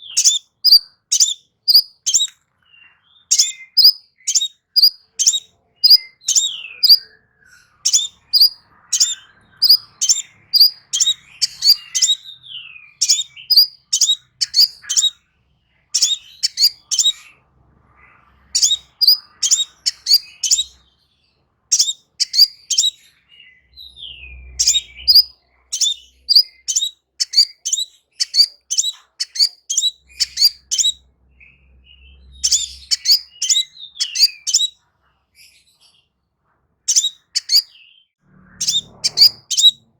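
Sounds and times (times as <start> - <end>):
bird chirping song: 0.0 - 36.2, 36.8 - 39.9.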